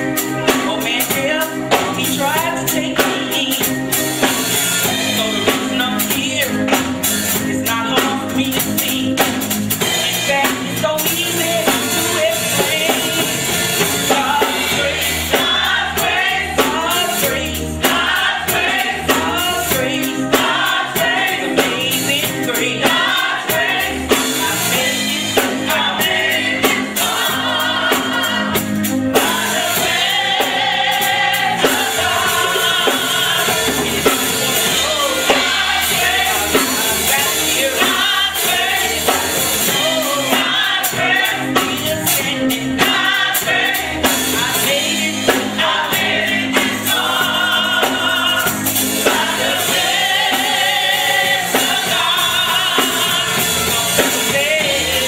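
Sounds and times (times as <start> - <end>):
band with drum beat: 0.0 - 55.0
woman singing gospel: 7.5 - 55.0.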